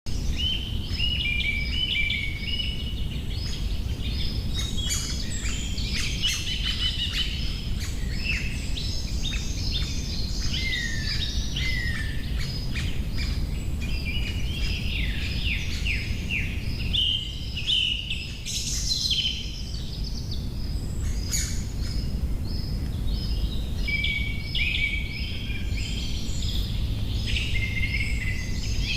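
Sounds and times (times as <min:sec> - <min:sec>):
birds chirping and singing: 0:00.1 - 0:28.9
steady low rumble: 0:00.1 - 0:28.9.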